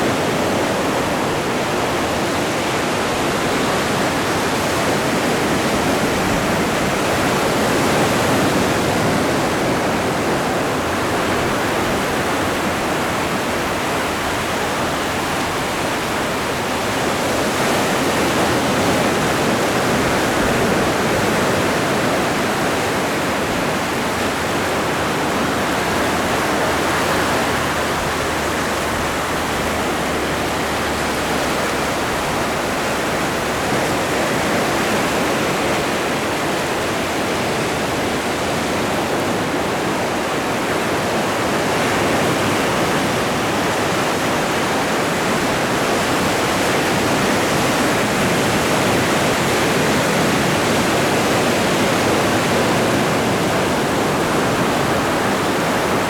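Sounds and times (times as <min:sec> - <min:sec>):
ocean waves washing: 0:00.0 - 0:56.0.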